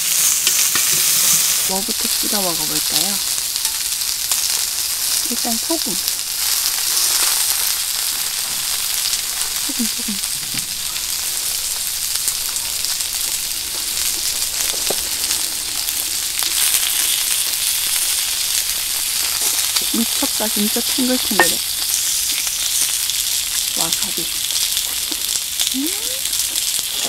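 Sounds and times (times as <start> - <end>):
meat sizzling in a frying pan: 0.0 - 27.0.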